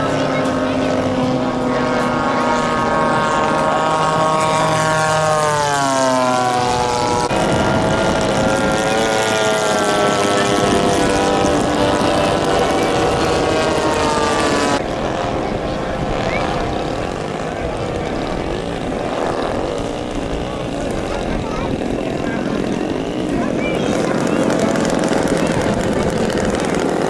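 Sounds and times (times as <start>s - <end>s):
model plane propeller engine: 0.0s - 27.0s.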